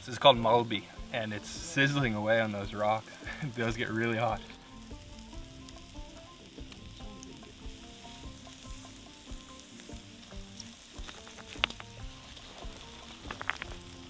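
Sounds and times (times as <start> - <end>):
meat sizzling on hot stones: 0.0 - 14.0
small pops and crackles: 0.3 - 14.0.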